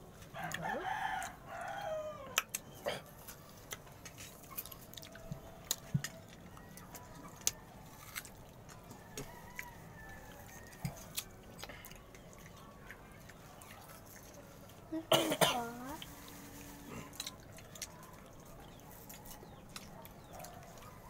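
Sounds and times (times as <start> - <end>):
people chewing crunchy mango: 0.0 - 21.0.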